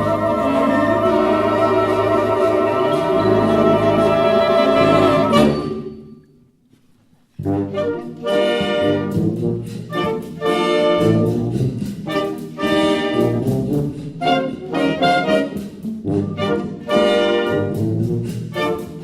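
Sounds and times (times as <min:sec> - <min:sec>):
wind band playing accented chords: 0:00.0 - 0:05.9, 0:07.4 - 0:19.0.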